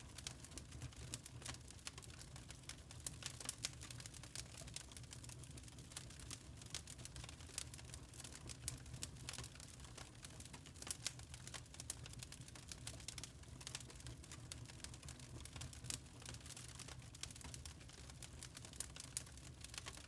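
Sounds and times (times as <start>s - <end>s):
burning charcoal crackling: 0.0s - 20.0s.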